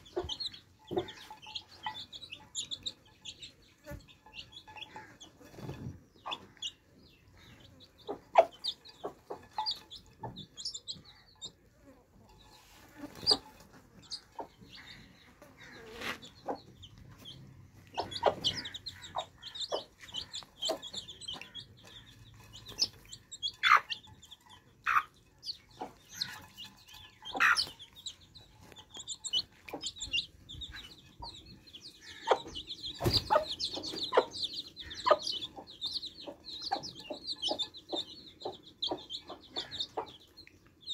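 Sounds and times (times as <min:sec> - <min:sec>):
baby chicks peeping: 0:00.0 - 0:40.9
hen clucking: 0:00.0 - 0:40.9.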